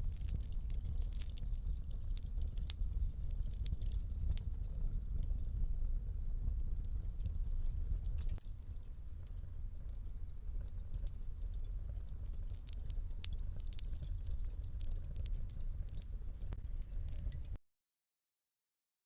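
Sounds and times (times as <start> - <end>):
wood fire crackling: 0.0 - 17.6.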